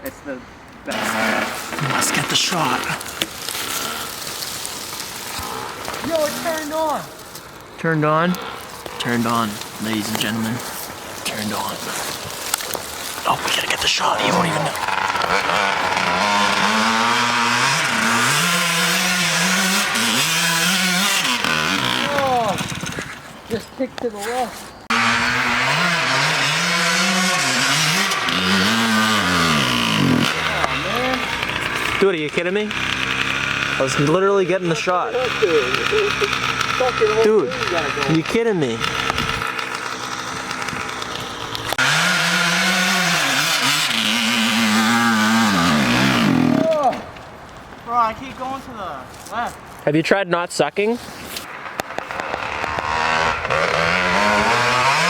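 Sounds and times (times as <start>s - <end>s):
dirt bike engine running: 0.9s - 13.4s, 14.7s - 23.2s, 24.9s - 46.7s, 51.9s - 55.0s.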